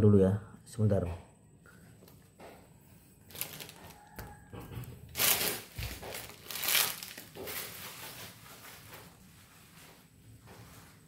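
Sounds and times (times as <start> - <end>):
crinkling and rustling: 1.8 - 11.0.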